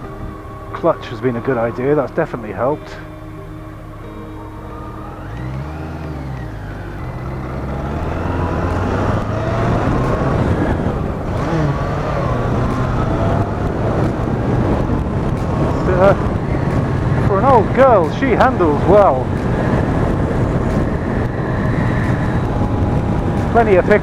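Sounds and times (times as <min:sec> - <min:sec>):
motorcycle engine: 0:00.0 - 0:24.0
wind and road noise: 0:00.0 - 0:24.0.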